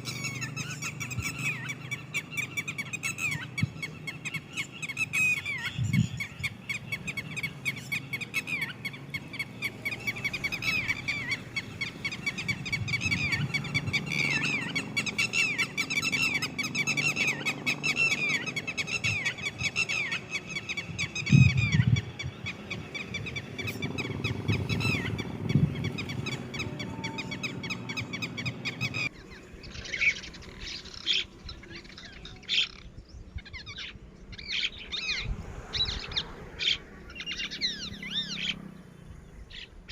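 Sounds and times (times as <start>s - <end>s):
lapwings calling: 0.0s - 38.6s.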